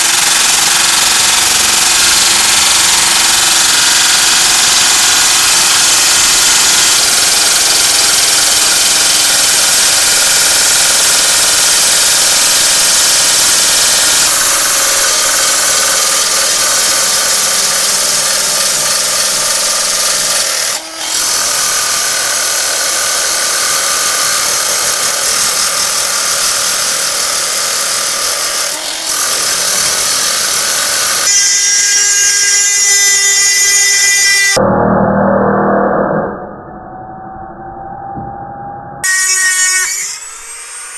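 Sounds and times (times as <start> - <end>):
power tool grinding: 0.0 - 34.6, 39.0 - 40.9.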